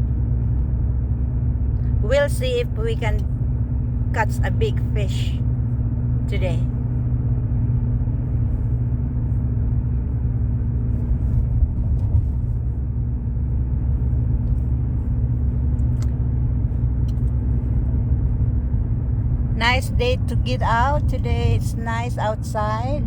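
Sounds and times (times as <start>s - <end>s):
car engine and road noise: 0.0s - 23.0s
faint hum: 0.0s - 23.0s.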